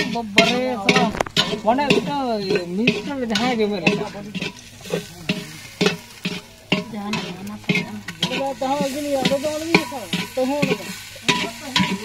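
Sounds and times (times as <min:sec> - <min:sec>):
hand scraping metal pot: 0:00.0 - 0:12.0.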